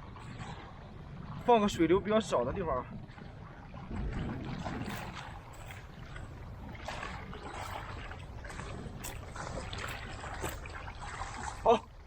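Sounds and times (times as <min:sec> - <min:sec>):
seawater sloshing among rocks: 0:00.0 - 0:12.0
wind rumbling on microphone: 0:00.0 - 0:12.0.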